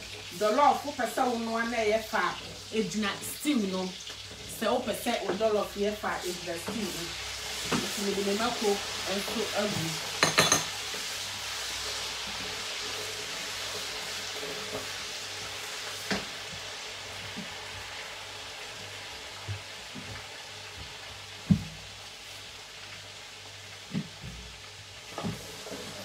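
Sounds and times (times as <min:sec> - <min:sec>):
food sizzling in a pot: 0:00.0 - 0:26.0.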